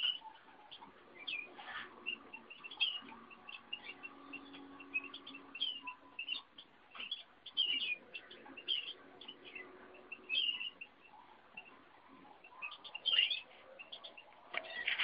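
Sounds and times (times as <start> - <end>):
birds chirping and piping: 0.0 - 15.0.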